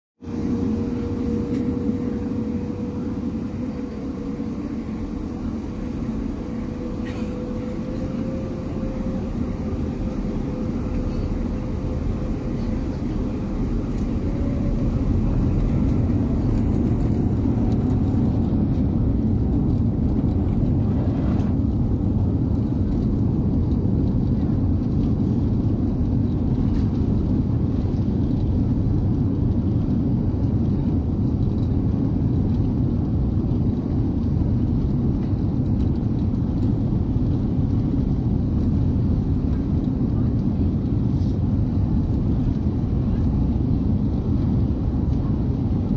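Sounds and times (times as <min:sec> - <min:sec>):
jet engine cabin rumble: 0:00.2 - 0:45.9.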